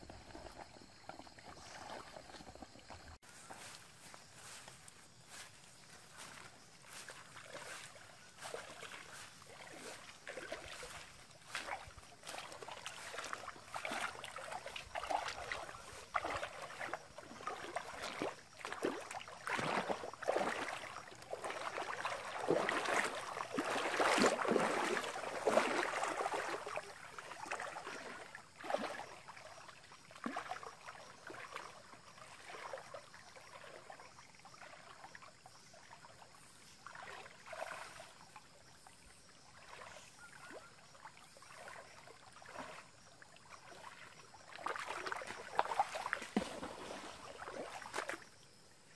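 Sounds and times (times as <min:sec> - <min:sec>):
splashing footsteps in water: 0:01.1 - 0:48.3.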